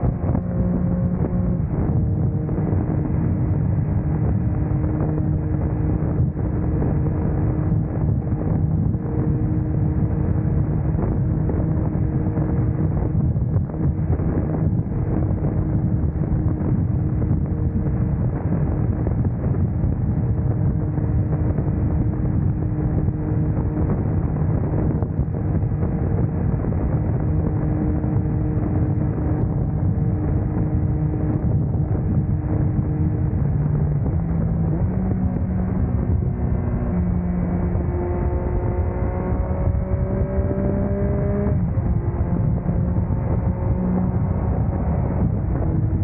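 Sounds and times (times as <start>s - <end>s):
motorcycle engine running: 0.0s - 46.0s
wind rush on microphone: 0.0s - 46.0s.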